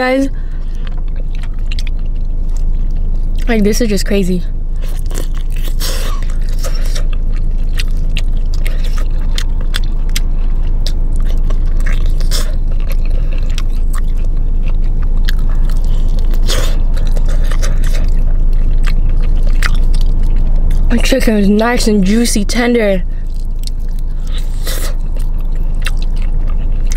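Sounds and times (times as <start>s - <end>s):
chewing crispy fried chicken: 0.0s - 26.9s
steady low hum: 0.0s - 26.9s.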